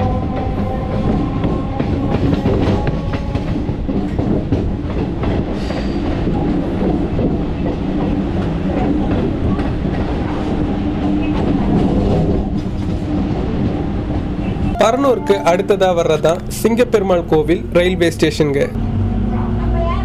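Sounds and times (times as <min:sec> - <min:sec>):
train wheels rumbling on rails: 0:00.0 - 0:14.8, 0:15.6 - 0:20.0.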